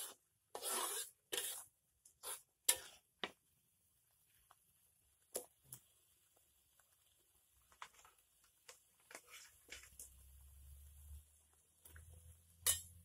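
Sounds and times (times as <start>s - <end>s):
sauce simmering pops and crackles: 0.0s - 13.0s.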